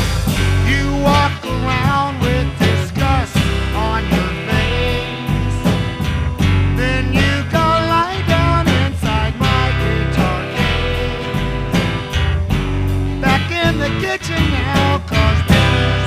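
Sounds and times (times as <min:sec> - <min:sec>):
bass guitar: 0:00.0 - 0:16.0
guitar: 0:00.0 - 0:16.0
rock band playing: 0:00.0 - 0:16.0
steady drum beat: 0:00.0 - 0:16.0.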